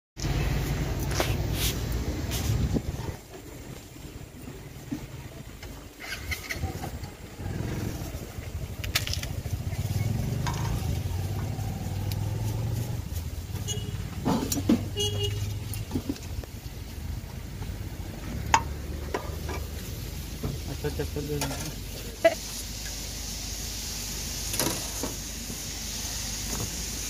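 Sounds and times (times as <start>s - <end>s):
vehicle engine rumble: 0.2s - 27.0s.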